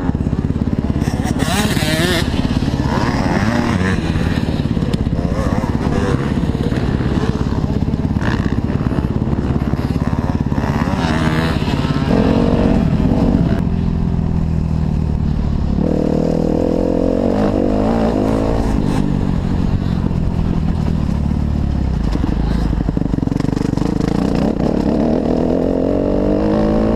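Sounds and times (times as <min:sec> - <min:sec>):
motocross engine revving: 0:00.0 - 0:13.8, 0:15.8 - 0:20.7, 0:22.2 - 0:26.9.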